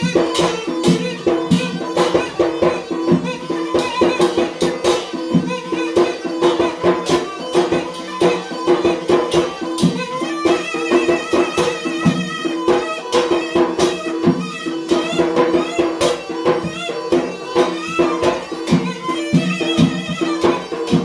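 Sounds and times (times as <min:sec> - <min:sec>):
drum beating fast rhythm: 0:00.0 - 0:21.0.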